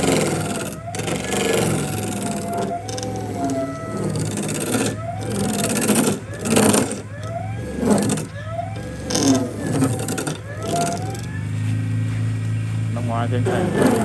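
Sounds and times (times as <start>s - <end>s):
power tool grinding wood: 0.0s - 14.0s.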